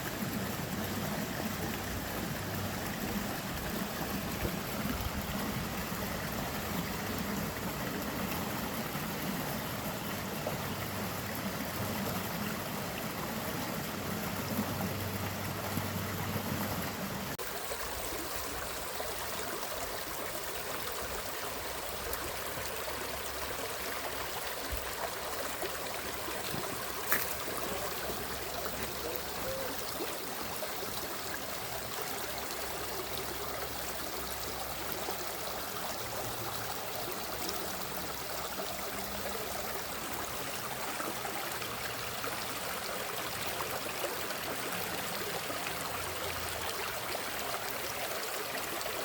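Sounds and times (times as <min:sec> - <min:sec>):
stream running water: 0:00.0 - 0:49.0.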